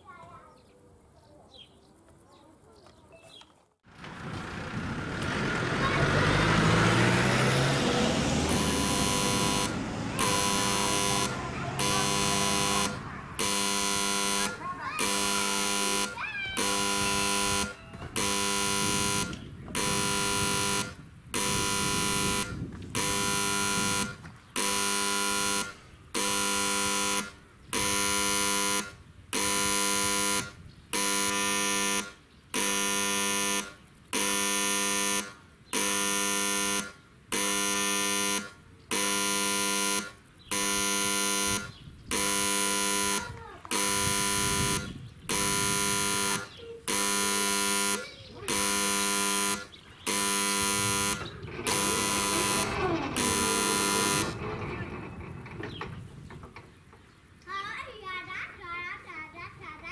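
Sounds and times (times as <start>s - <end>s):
electric warning buzzer pulses: 4.4s - 56.7s.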